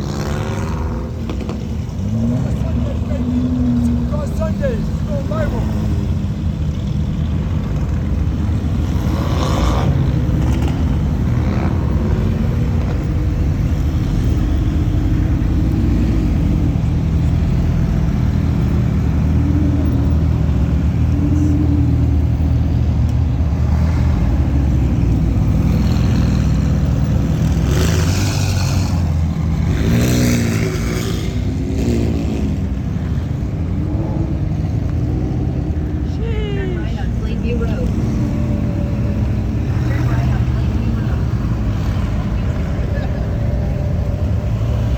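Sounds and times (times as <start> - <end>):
car engine droning: 0.0 - 44.9.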